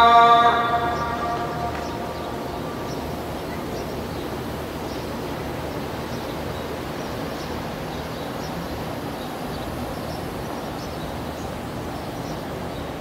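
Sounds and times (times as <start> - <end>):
constant hum and hiss: 0.0 - 13.0
small birds chirping: 0.0 - 13.0.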